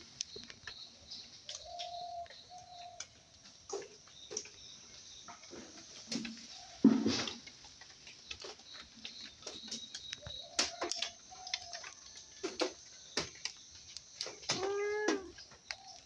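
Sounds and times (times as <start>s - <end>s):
bird chirps and ticks: 0.0s - 16.0s.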